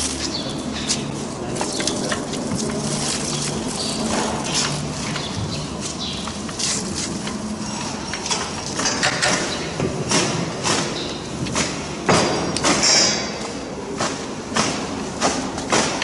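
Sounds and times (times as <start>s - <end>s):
workshop background noise: 0.0s - 16.0s.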